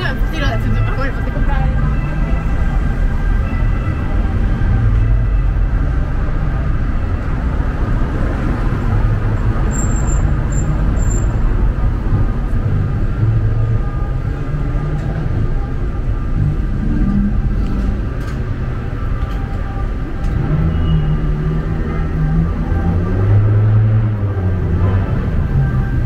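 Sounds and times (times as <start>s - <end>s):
road traffic rumble: 0.0s - 26.0s
urban hum: 0.0s - 26.0s.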